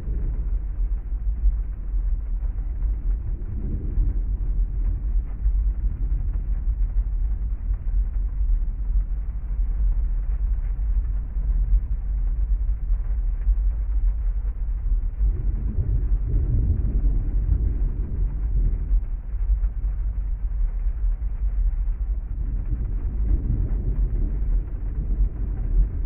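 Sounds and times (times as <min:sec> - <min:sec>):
muffled heavy rain rumble: 0:00.0 - 0:26.0.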